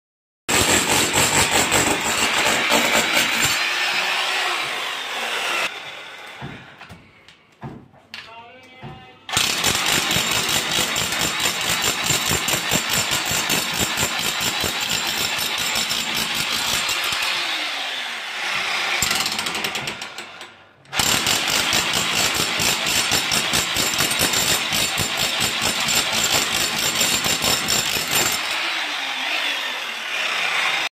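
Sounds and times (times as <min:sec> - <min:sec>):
demolition hammer chiseling concrete: 0:00.5 - 0:05.7, 0:09.3 - 0:30.9.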